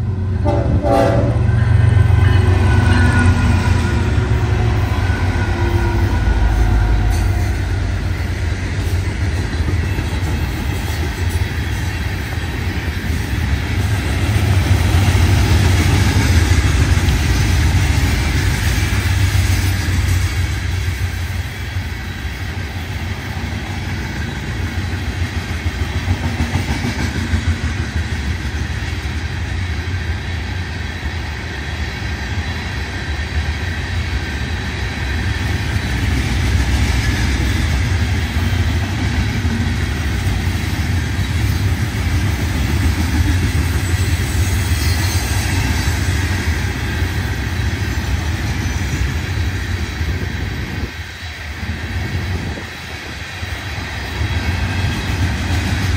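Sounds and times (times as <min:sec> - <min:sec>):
freight train wheels rumbling on rails: 0:00.0 - 0:55.9.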